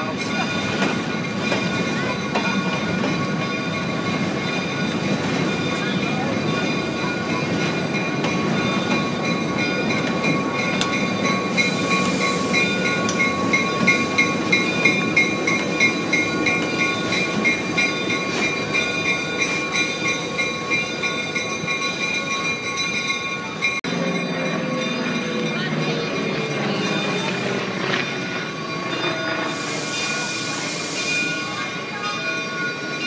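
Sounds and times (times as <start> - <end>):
train rolling on rails: 0.0 - 33.0
high ringing tones: 0.3 - 33.0.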